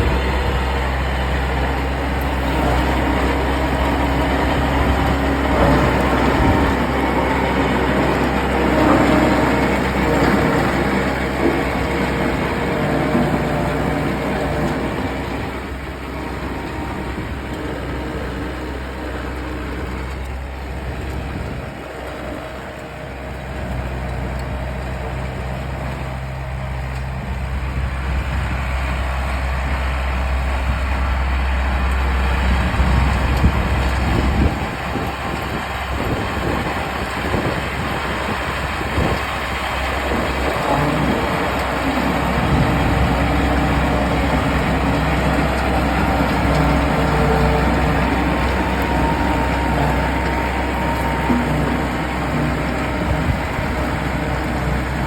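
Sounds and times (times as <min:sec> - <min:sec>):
rough uneven working sound: 0:00.0 - 0:28.4, 0:29.0 - 0:55.0
harvester engine humming: 0:00.0 - 0:55.0.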